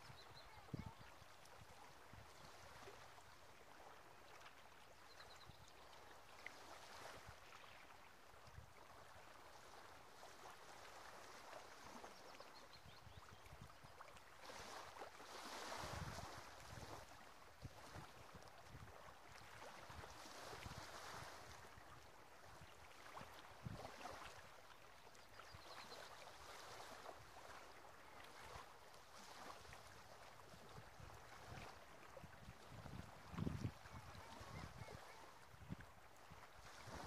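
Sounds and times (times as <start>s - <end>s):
small waves lapping on shore: 0.0s - 37.0s.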